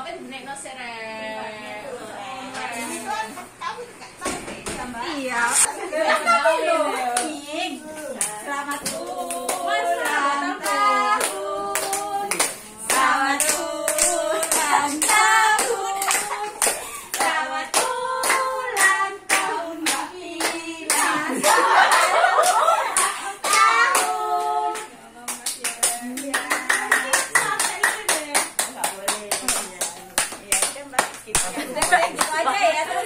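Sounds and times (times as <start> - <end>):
women singing together: 0.8 - 33.0.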